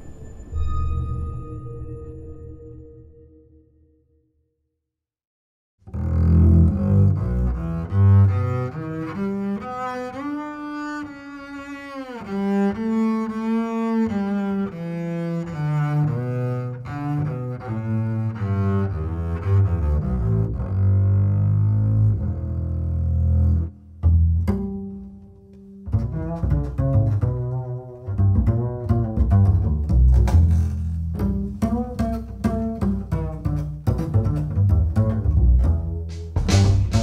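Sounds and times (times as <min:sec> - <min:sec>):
bowed double bass melody: 0:05.9 - 0:37.0.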